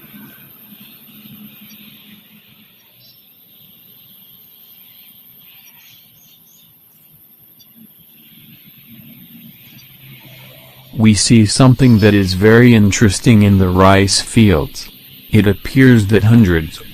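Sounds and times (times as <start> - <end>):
faint bird chirps: 0.0 - 16.9
steady background hiss: 0.0 - 16.9.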